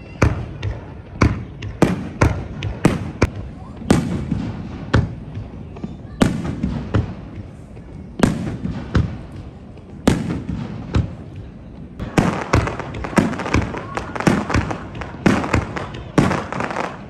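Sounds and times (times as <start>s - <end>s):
fireworks bursting with echo: 0.0s - 17.0s.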